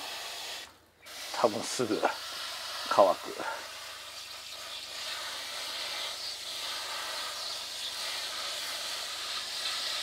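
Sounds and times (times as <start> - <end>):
hose spraying water on plants: 0.0 - 10.0.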